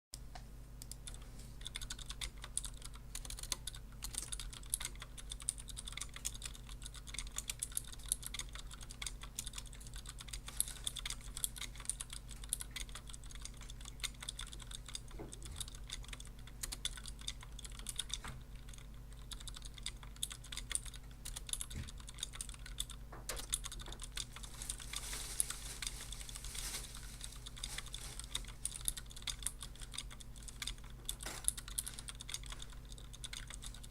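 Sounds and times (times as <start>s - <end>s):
faint low hum: 0.2s - 33.9s
fast typing on mechanical keyboard: 0.8s - 33.9s.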